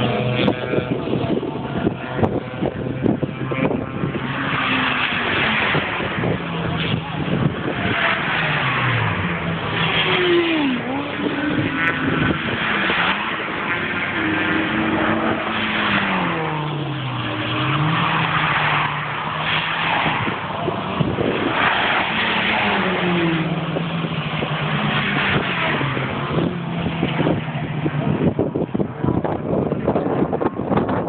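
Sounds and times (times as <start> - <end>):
car engine braking and downshifting: 0.0 - 31.0.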